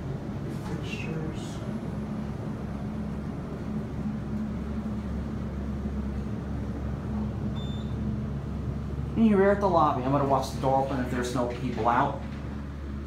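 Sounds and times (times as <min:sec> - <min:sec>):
elevator rumble and hum: 0:00.0 - 0:13.0.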